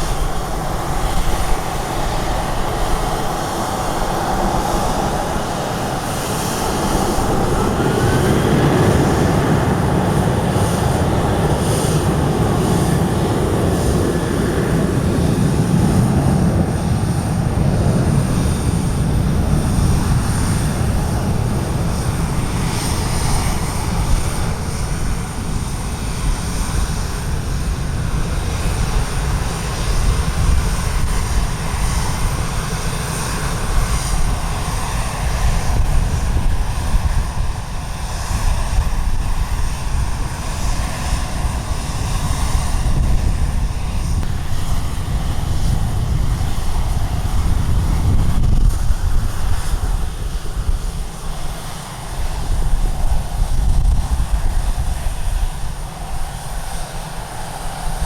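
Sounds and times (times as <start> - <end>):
aircraft engines rumbling: 0.0 - 58.0
wind buffeting microphone: 0.0 - 58.0.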